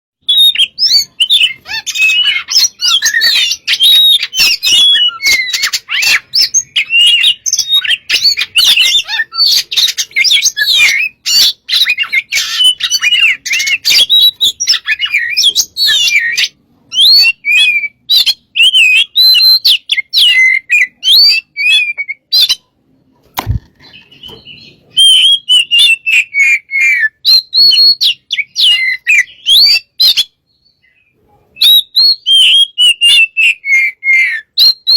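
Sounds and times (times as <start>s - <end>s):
bird singing whistles and warbles: 0.2s - 22.8s, 23.8s - 34.9s.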